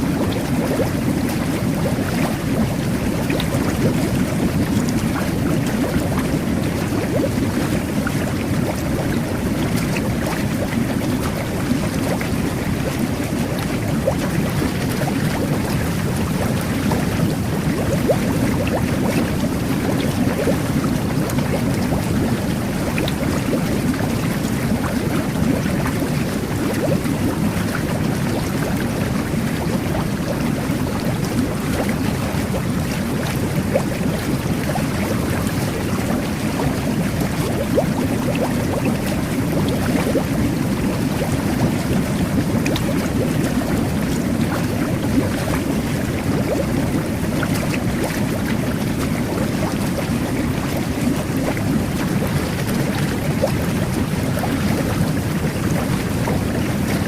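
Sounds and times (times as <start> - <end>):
bubbles popping: 0.0 - 57.0
jet bath bubbling rumble: 0.0 - 57.0.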